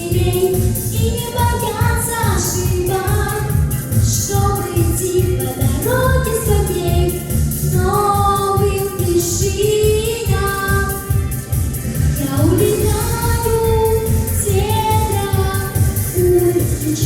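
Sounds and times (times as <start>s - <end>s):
person singing: 0.0s - 17.0s
pop backing track with beat: 0.0s - 17.0s.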